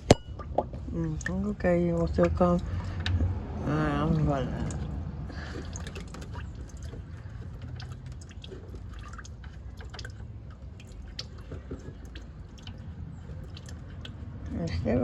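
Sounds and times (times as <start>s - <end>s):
coolant dripping: 0.0s - 15.0s
low steady hum: 0.0s - 15.0s.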